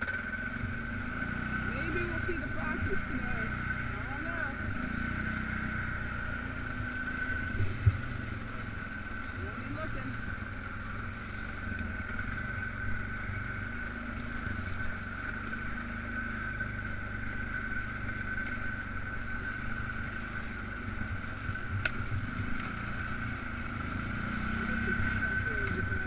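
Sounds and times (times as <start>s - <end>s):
atv engine droning: 0.0s - 26.0s.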